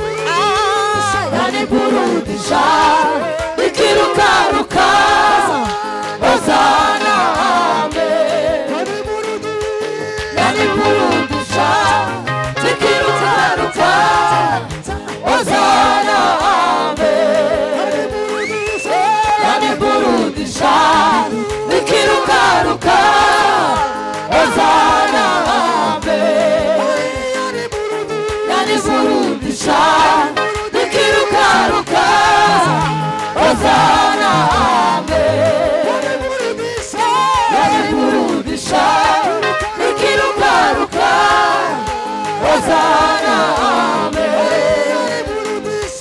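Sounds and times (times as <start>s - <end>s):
group of singers: 0.0s - 46.0s
keyboard accompaniment: 0.0s - 46.0s
musical backing: 0.0s - 46.0s
woman singing lead: 0.0s - 46.0s.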